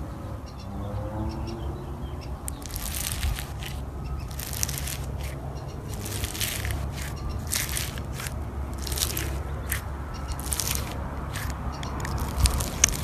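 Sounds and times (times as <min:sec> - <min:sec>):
slime crackling and crunching: 0:02.5 - 0:13.0.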